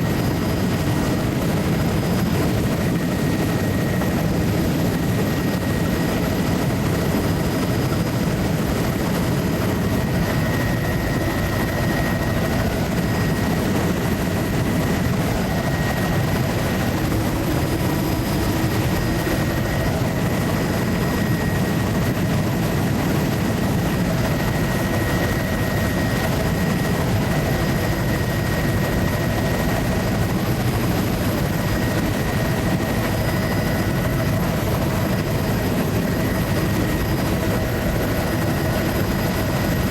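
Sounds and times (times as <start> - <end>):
faint steady whine: 0.0 - 39.9
propeller aircraft engine in cabin: 0.0 - 39.9.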